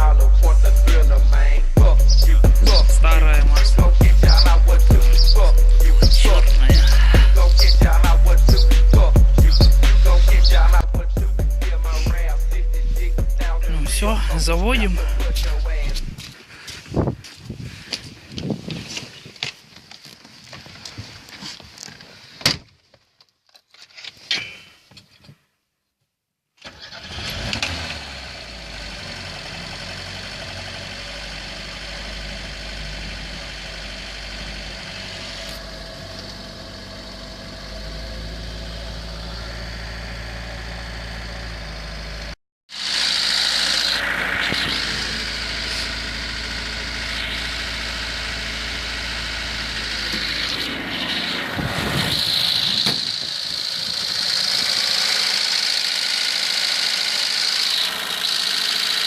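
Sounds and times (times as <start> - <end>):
car engine starting and idling: 0.0 - 16.3, 26.6 - 59.0.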